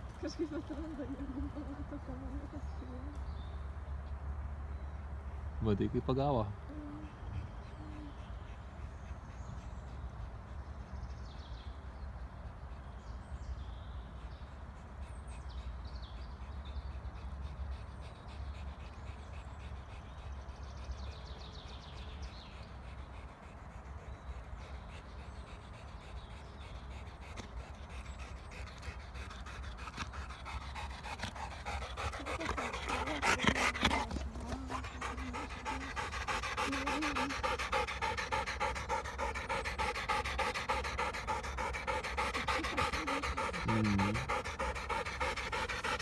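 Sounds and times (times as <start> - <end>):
dog panting: 6.2 - 46.0.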